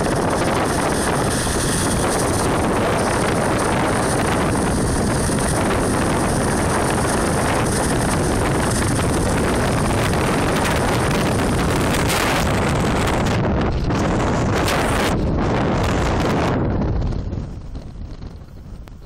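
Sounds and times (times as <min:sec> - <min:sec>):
car road noise at speed: 0:00.0 - 0:19.0
wind buffeting microphone: 0:00.0 - 0:19.0.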